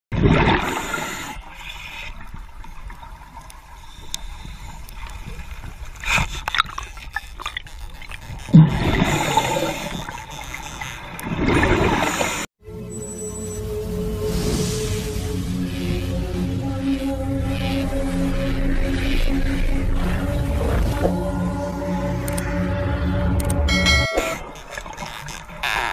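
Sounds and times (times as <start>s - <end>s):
underwater gurgling and bubbling: 0.1s - 12.5s, 14.1s - 22.6s.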